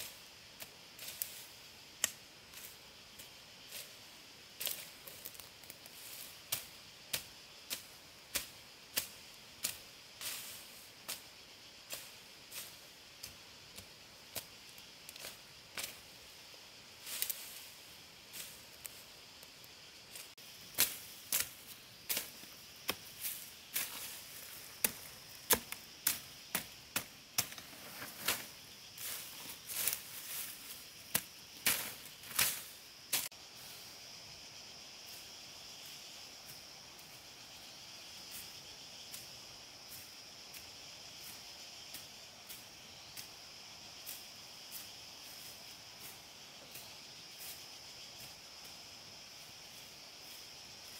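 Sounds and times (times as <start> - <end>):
insects buzzing: 0.0 - 50.9.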